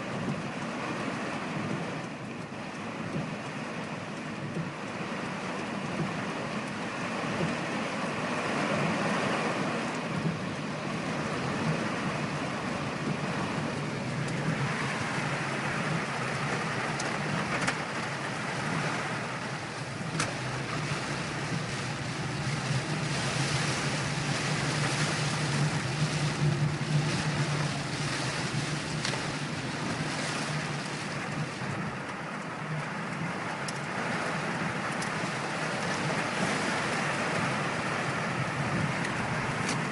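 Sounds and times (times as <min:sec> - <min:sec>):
engine and tyre hum: 0:00.0 - 0:39.9
heavy rain drumming on car: 0:00.0 - 0:39.9.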